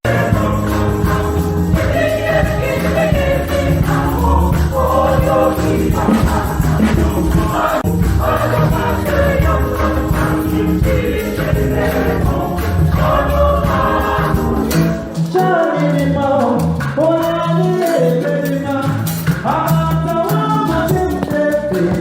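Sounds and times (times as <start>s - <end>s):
choir singing gospel: 0.0s - 22.0s
shaken percussion: 0.1s - 22.0s.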